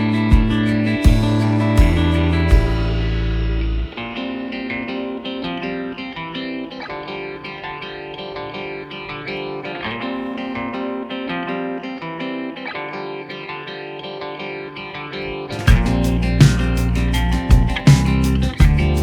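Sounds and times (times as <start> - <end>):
guitar background music: 0.0 - 19.0.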